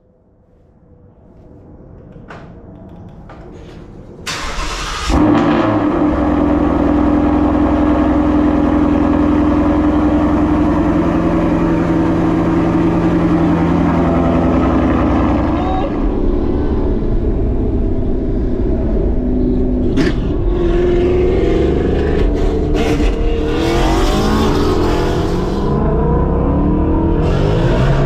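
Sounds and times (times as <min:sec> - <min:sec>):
car engine revving and idling: 0:04.3 - 0:28.0.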